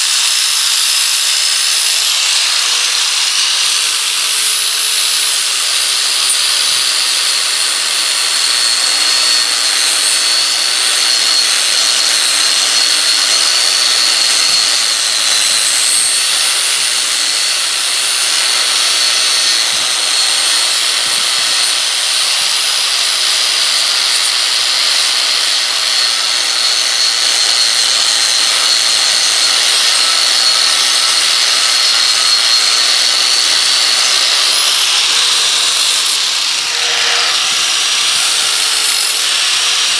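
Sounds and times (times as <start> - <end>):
angle grinder grinding steel: 0.0 - 39.9.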